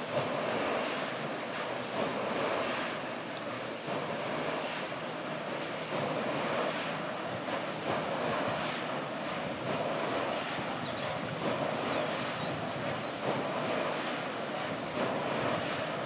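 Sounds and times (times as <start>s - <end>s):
water splashing off a water wheel: 0.0s - 16.0s.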